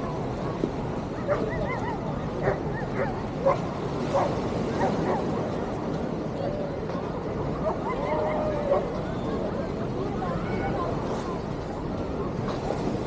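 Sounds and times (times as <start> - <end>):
crowd babble: 0.0 - 13.0.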